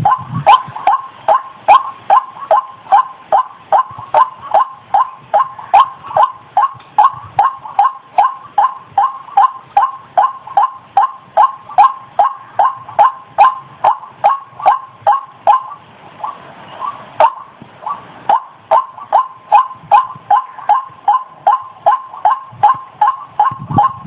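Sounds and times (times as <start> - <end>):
waterhen falling croaks: 0.0 - 24.0.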